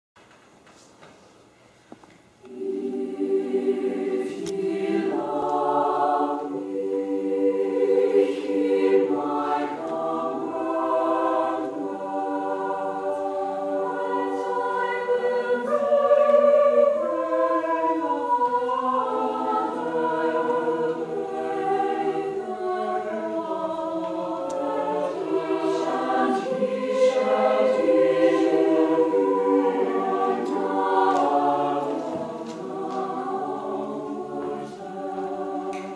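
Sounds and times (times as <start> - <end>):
choir singing unaccompanied: 2.4 - 35.9.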